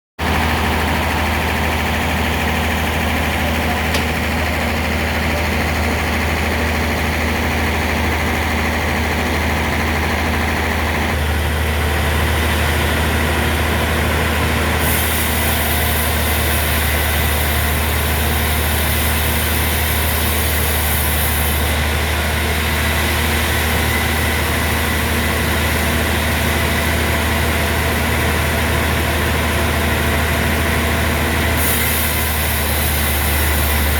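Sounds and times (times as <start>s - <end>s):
sawmill machinery humming: 0.2s - 33.9s.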